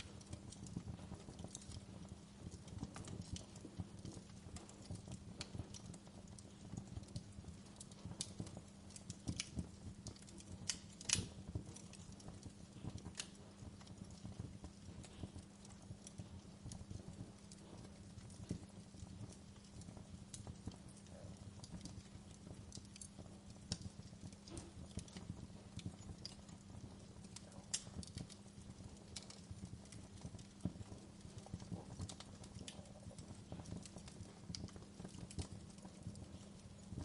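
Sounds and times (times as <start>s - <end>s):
fire crackling and popping: 0.0s - 37.0s.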